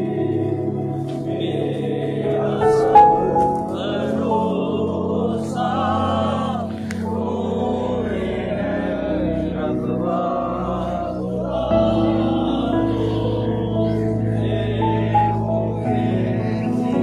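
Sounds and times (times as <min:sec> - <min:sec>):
group singing a hymn: 0:00.0 - 0:17.0
low held accompaniment: 0:00.0 - 0:17.0.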